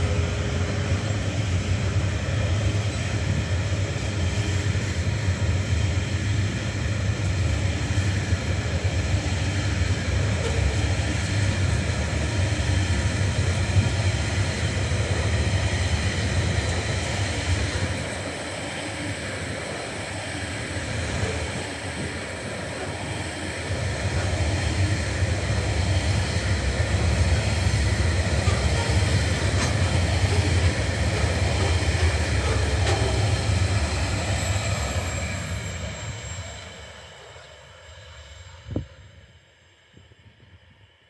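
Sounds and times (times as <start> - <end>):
freight train wheels rumbling: 0.0 - 39.4.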